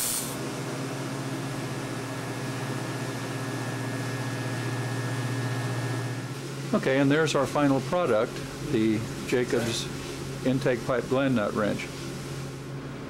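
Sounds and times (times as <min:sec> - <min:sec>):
welding arc buzzing: 0:00.0 - 0:06.6, 0:07.6 - 0:12.7.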